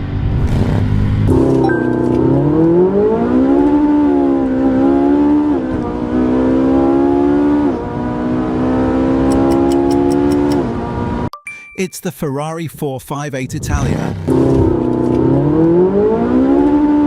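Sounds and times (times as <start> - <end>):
sports car accelerating hard: 0.0 - 11.3, 13.8 - 17.0.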